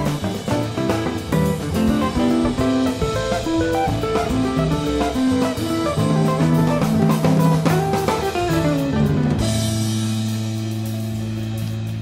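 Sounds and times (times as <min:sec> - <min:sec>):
instrumental jazz music: 0:00.0 - 0:12.0.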